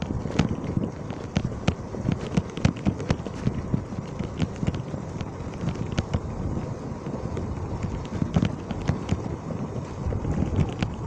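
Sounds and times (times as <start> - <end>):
low rumble: 0.0 - 11.0
vehicle rattling and clattering: 0.0 - 11.0.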